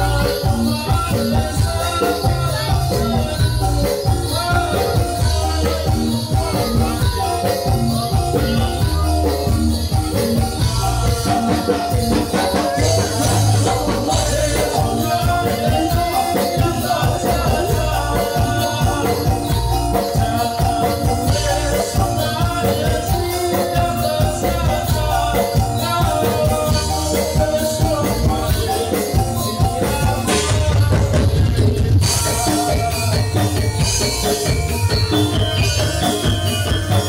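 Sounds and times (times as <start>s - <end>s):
drum beats: 0.0s - 37.0s
held instrumental tone: 0.0s - 37.0s
jingling rattling percussion: 0.0s - 37.0s.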